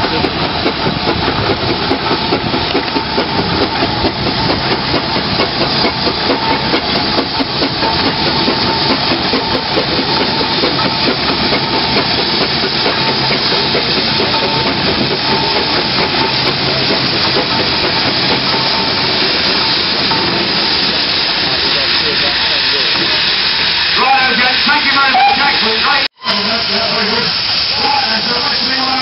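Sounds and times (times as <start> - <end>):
rapid steam engine exhaust beats: 0.0 - 29.0
steam hissing: 0.0 - 29.0.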